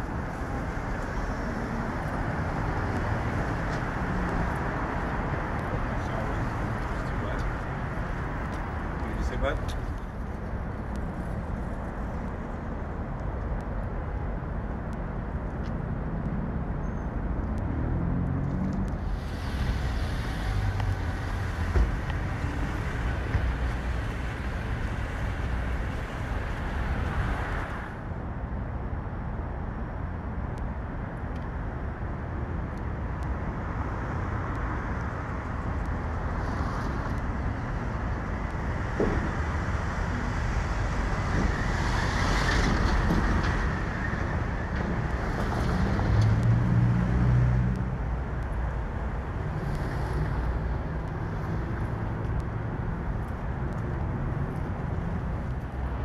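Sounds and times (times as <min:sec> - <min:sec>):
vehicles passing with low rumble: 0:00.0 - 0:56.0.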